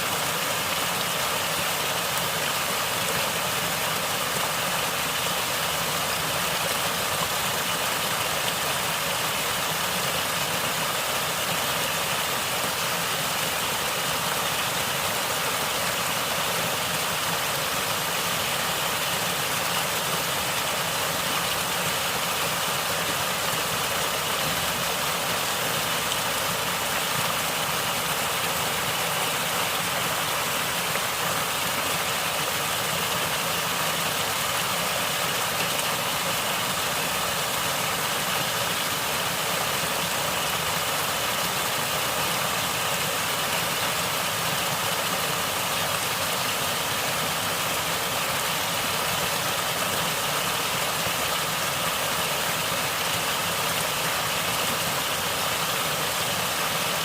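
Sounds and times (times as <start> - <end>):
flowing water gurgling: 0.0 - 57.0.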